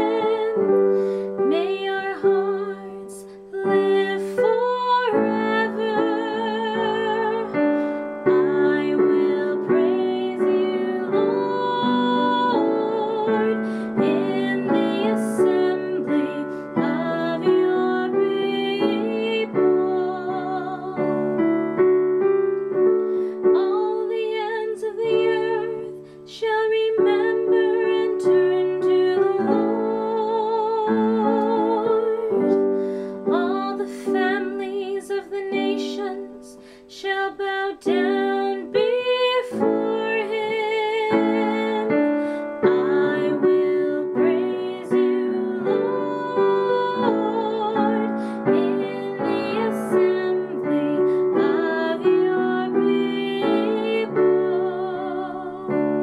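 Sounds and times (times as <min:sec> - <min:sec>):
solo voice singing with vibrato: 0:00.0 - 0:21.8, 0:23.4 - 0:56.0
piano accompaniment: 0:00.0 - 0:56.0.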